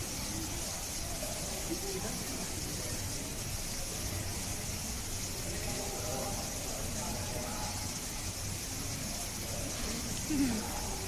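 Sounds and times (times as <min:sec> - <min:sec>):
background hiss: 0:00.0 - 0:11.0
distant people talking: 0:00.0 - 0:11.0.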